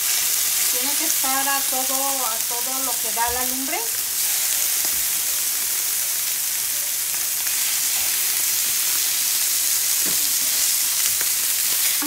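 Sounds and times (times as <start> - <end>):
steaks sizzling on a griddle: 0.0 - 12.0.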